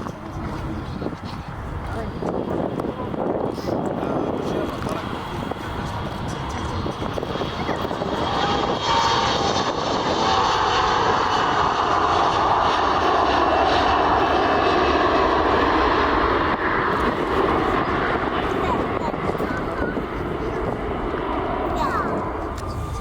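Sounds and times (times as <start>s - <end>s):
airliner engines passing: 0.0s - 23.0s.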